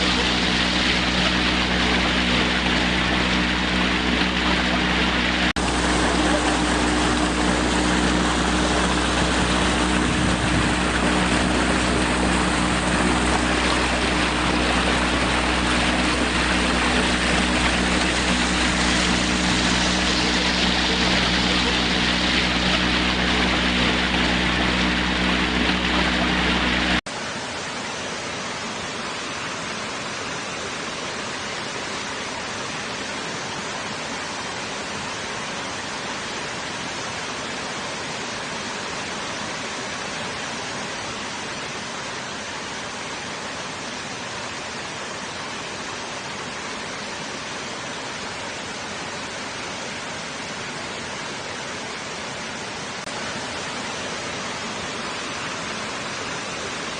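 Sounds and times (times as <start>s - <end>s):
motor drone with low hum: 0.0s - 56.9s
rushing water: 0.0s - 56.9s.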